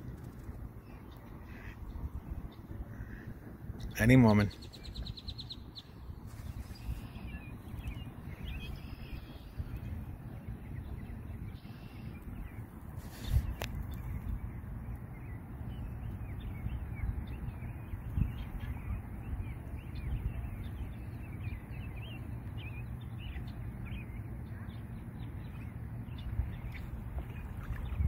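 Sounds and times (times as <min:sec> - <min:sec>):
small birds chirping: 0:00.0 - 0:03.2, 0:03.8 - 0:28.0
steady low rumble: 0:00.0 - 0:04.0, 0:04.6 - 0:28.0.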